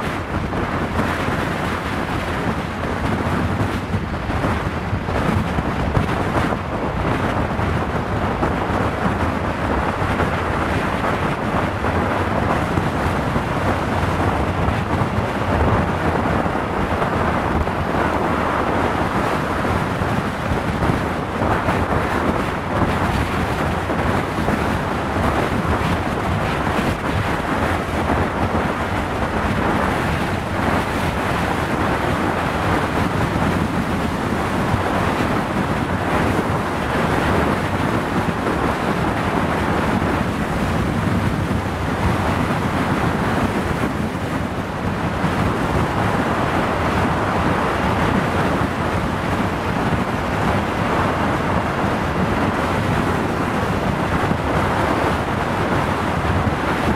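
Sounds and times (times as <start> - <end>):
road and vehicle noise: 0.0 - 56.9
wind rush over microphone: 0.0 - 56.9.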